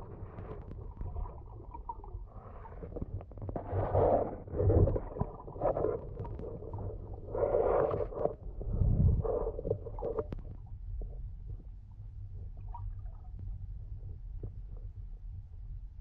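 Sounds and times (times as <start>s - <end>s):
underwater rumbling and gurgling: 0.0s - 16.0s.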